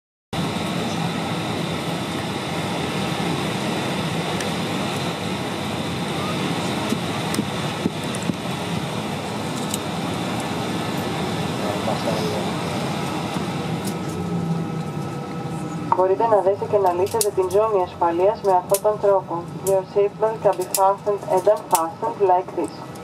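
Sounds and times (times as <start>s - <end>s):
aircraft cabin hum and hiss: 0.4s - 23.0s.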